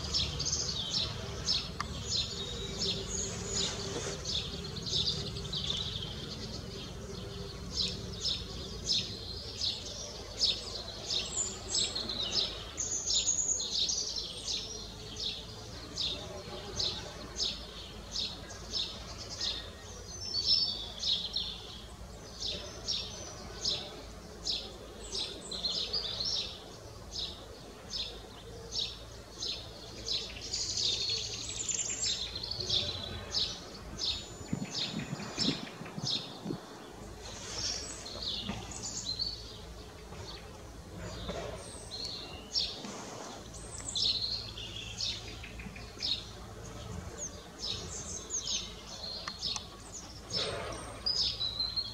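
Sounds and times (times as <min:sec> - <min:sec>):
birds singing: 0:00.0 - 0:51.9.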